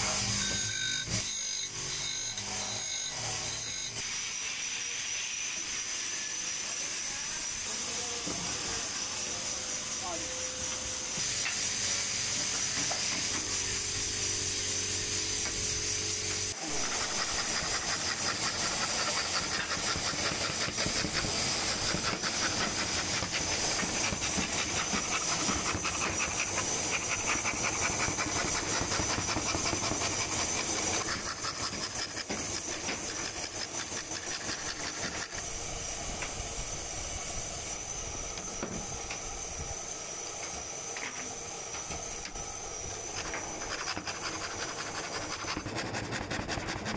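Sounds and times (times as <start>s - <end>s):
scroll saw cutting wood: 0.0s - 46.9s.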